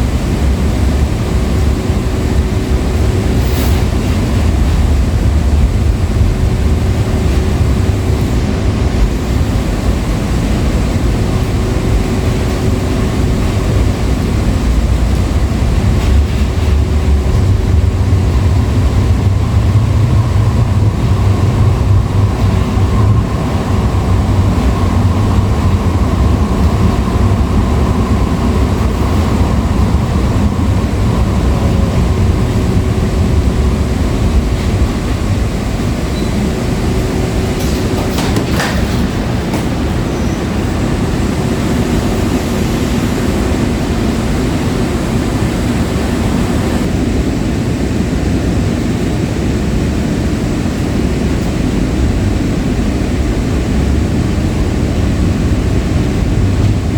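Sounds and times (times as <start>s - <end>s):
rail car wheels rumbling: 0.0s - 56.9s.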